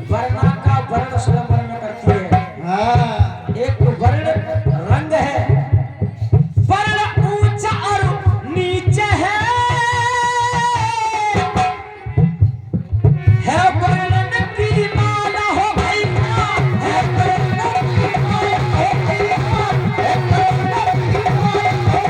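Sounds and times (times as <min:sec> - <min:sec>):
devotional singing: 0:00.0 - 0:12.3, 0:13.2 - 0:22.0
hand drum beats: 0:00.0 - 0:22.0.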